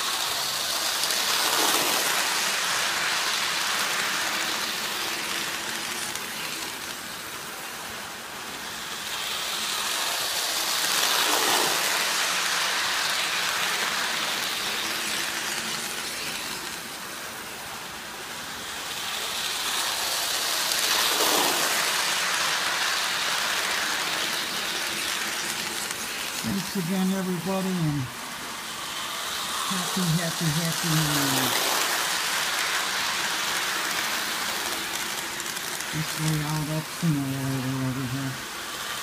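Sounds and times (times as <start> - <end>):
model train running on track: 0.0 - 39.0.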